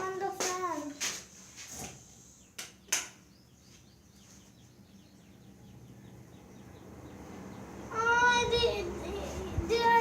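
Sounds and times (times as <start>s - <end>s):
baby birds chirping: 0.0s - 10.0s.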